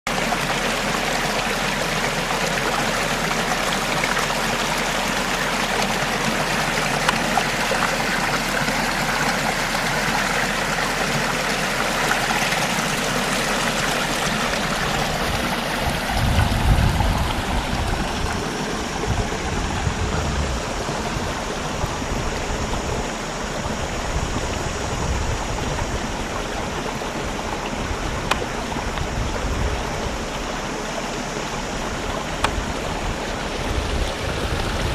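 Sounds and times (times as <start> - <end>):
water rushing in stream: 0.0 - 34.9
low rumbles: 4.4 - 34.9.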